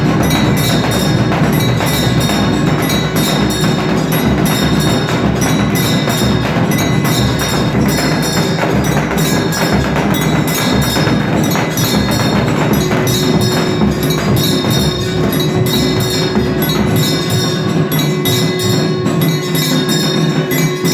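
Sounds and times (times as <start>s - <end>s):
cymbals ringing: 0.0s - 20.9s
dhol beaten in fast rhythm: 0.0s - 20.9s
metallic bells ringing: 0.0s - 20.9s.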